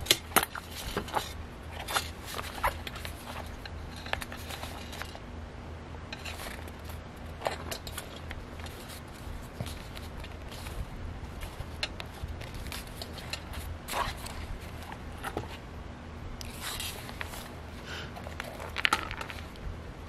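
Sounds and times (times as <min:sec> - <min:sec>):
paper pages rustling and tapping: 0:00.0 - 0:05.2, 0:06.2 - 0:15.6, 0:16.4 - 0:17.5, 0:18.2 - 0:19.6.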